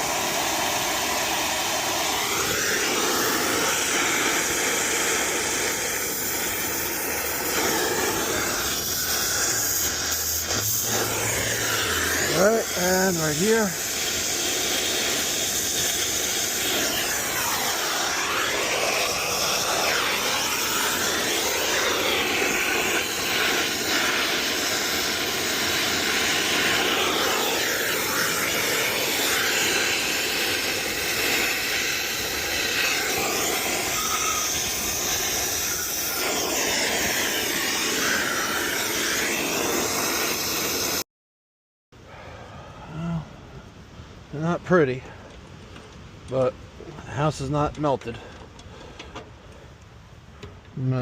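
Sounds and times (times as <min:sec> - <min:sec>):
wind gusts: 0:00.0 - 0:40.8
torch flame hissing: 0:00.0 - 0:41.0.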